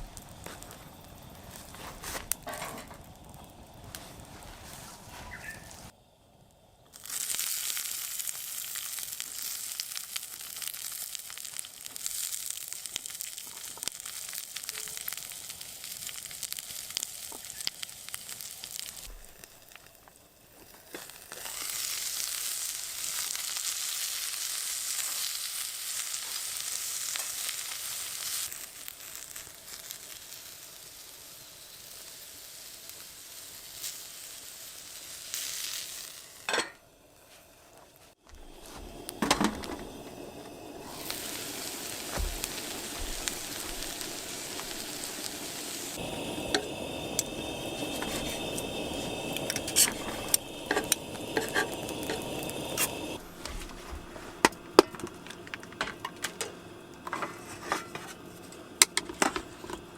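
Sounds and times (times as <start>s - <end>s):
food sizzling in hot pan: 5.3s - 59.9s.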